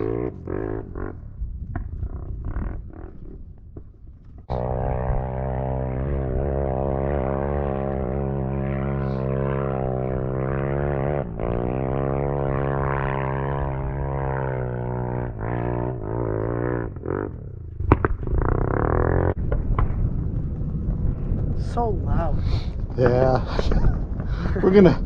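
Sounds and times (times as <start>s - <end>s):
vehicle engine running loudly: 0.0s - 1.3s, 4.5s - 25.0s.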